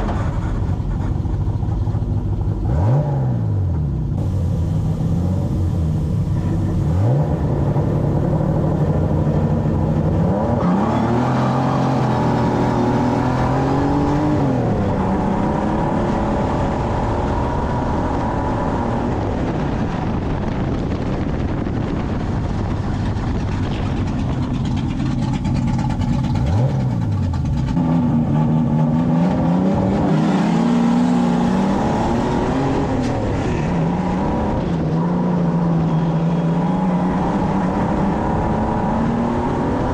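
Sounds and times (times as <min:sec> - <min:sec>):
race car engine revving: 0:00.0 - 0:20.8, 0:23.2 - 0:39.9
constant rush of noise: 0:00.0 - 0:39.9.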